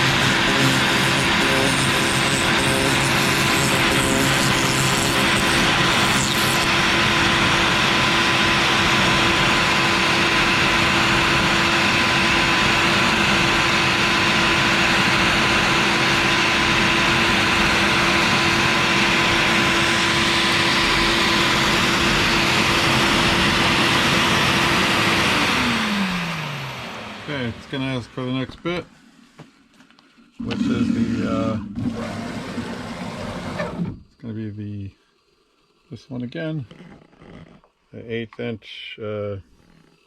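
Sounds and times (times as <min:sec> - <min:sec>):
router spindle whine: 0:00.0 - 0:28.8, 0:30.4 - 0:34.0.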